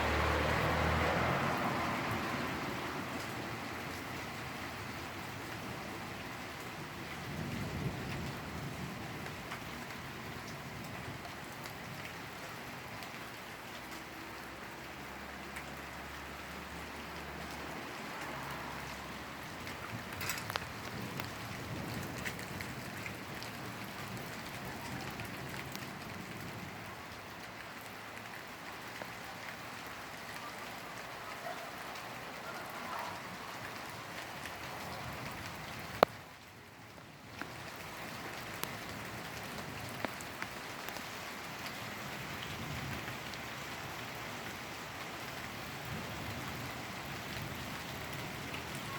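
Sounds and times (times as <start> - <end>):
rain pattering on surfaces: 0.0 - 48.9.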